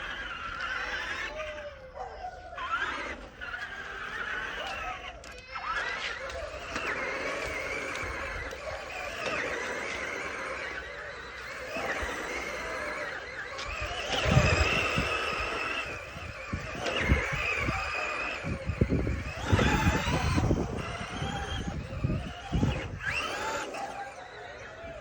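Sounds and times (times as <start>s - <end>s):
electric toy car motor whining: 0.0s - 25.0s.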